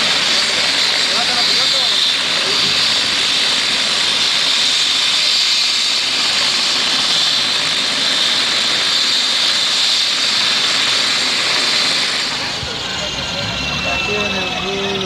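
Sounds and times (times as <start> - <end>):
helicopter running close: 0.0 - 15.0.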